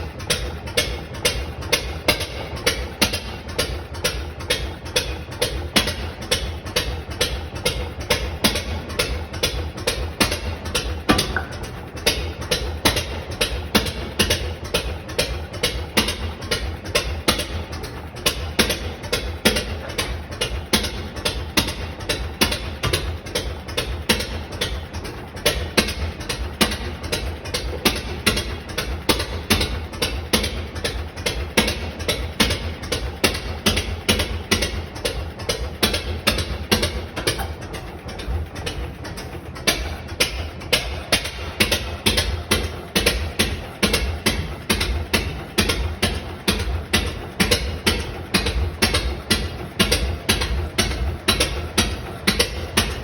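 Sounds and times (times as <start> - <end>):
stationary engine running steadily: 0.0 - 53.0.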